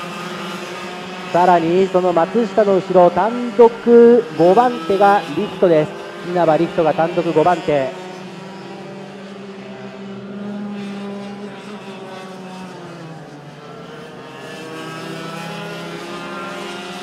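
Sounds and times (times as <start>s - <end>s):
racing kart engines buzzing: 0.0s - 17.0s.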